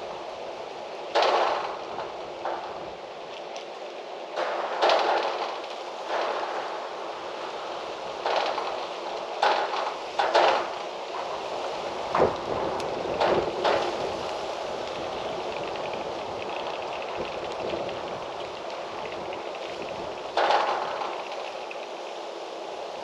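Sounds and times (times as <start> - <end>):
gusty wind rustling trees: 0.0 - 23.0.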